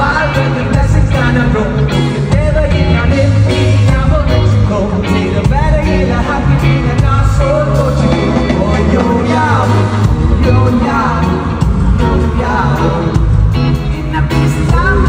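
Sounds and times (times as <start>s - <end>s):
band with heavy bass: 0.0s - 15.0s
person singing: 0.0s - 15.0s.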